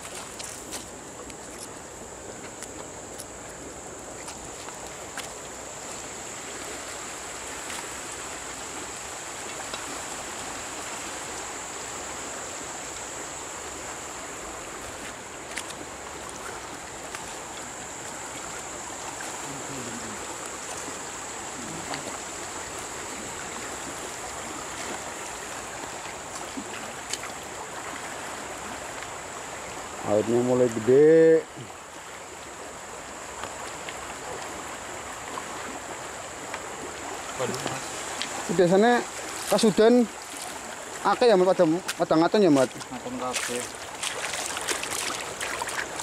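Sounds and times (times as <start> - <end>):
muddy water rushing: 0.0 - 46.0.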